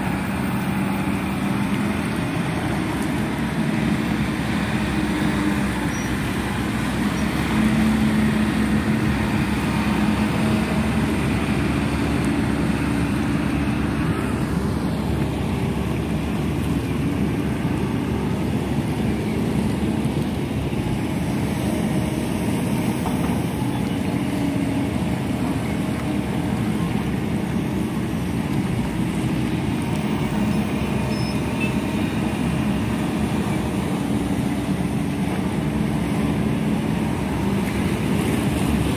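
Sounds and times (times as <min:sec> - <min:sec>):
rushing water and wind: 0:00.0 - 0:38.9.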